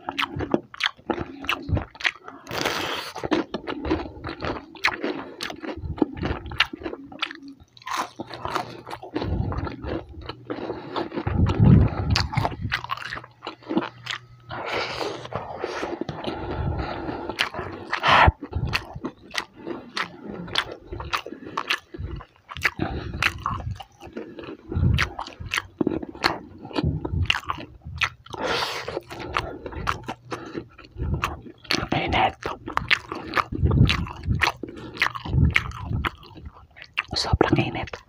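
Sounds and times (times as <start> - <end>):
crunching fried chicken: 0.0 - 38.0
wet chewing: 0.0 - 38.0.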